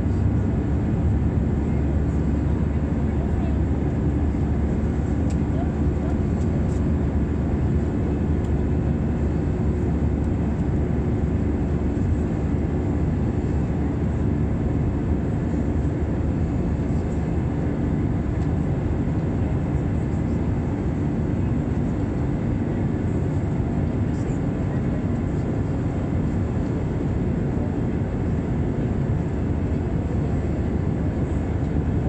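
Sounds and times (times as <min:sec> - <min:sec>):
jet cabin engine drone: 0:00.0 - 0:32.0.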